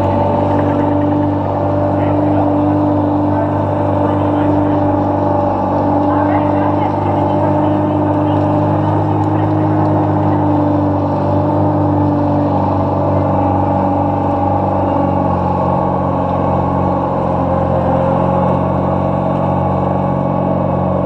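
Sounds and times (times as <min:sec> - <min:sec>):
ice resurfacer engine running: 0:00.0 - 0:21.0.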